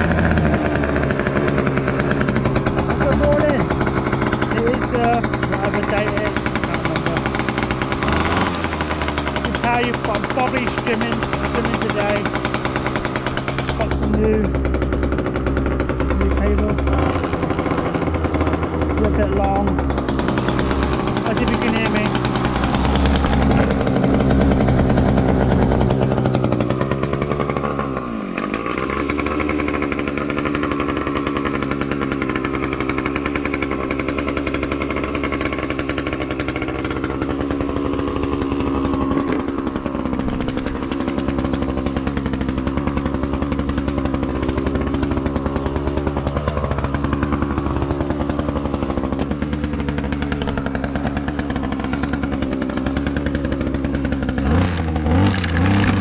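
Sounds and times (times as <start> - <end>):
brushcutter engine running: 0.0 - 56.0.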